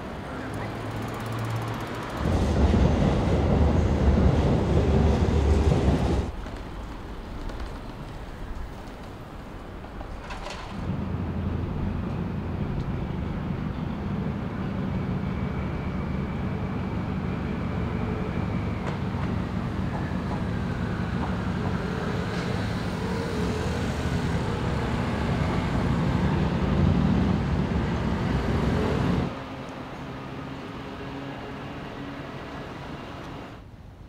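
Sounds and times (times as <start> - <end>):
passing vehicles rumbling: 0.0 - 33.7.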